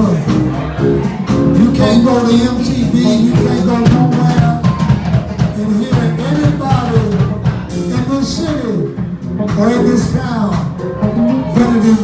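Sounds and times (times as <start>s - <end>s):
bass line: 0.0s - 12.0s
drum kit beat: 0.0s - 12.0s
live soul band playing: 0.0s - 12.0s.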